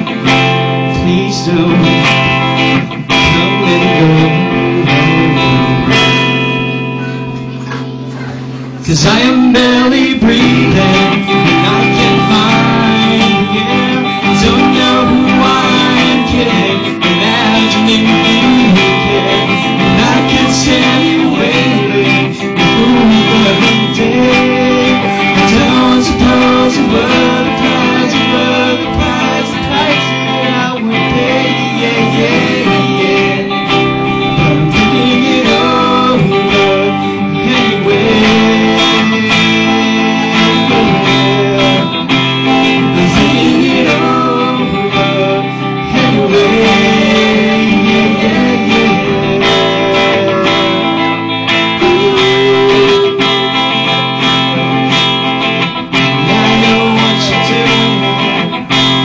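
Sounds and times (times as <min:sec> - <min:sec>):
man singing: 0:00.0 - 0:06.6, 0:08.7 - 0:55.0, 0:55.6 - 0:59.0
electric guitar: 0:00.0 - 0:59.0.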